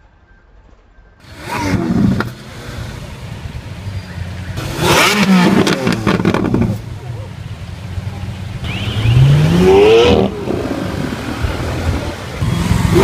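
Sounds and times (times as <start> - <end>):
car engine revving: 1.2 - 13.0.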